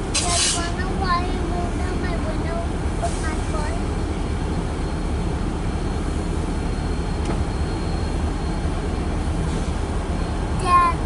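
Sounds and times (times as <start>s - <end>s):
car rumble from inside cabin: 0.0s - 9.2s, 9.8s - 11.0s.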